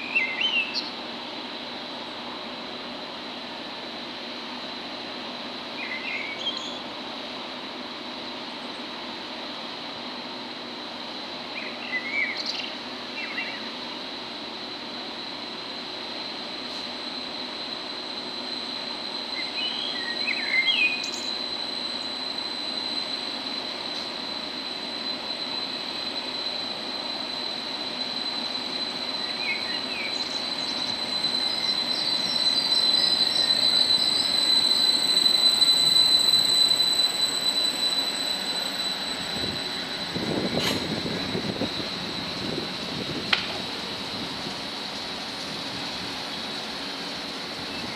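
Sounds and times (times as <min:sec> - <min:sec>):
train brakes squealing: 0:00.0 - 0:47.9
train whine and rumble: 0:00.0 - 0:47.9.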